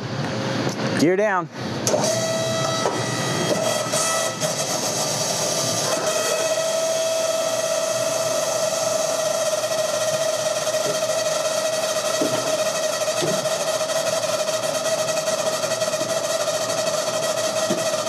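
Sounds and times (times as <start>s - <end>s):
hydraulic landing gear whine: 1.6s - 18.0s.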